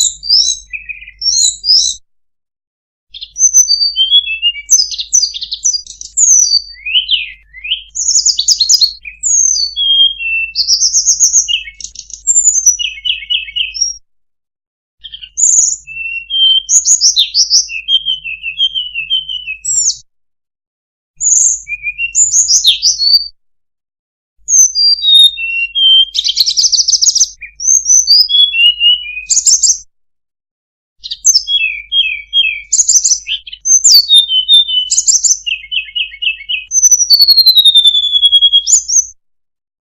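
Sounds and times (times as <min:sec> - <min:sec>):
birdsong whistles and trills: 0:00.0 - 0:02.0, 0:03.1 - 0:14.1, 0:15.0 - 0:20.1, 0:21.2 - 0:23.4, 0:24.4 - 0:29.9, 0:31.0 - 0:39.2.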